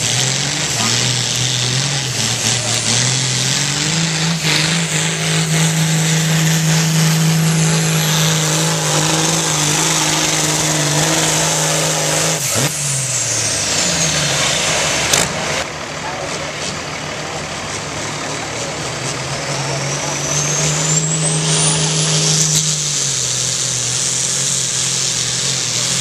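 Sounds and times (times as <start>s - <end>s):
high whine sliding down: 0.0s - 15.7s, 19.3s - 26.0s
tractor diesel engine at high revs: 0.0s - 26.0s.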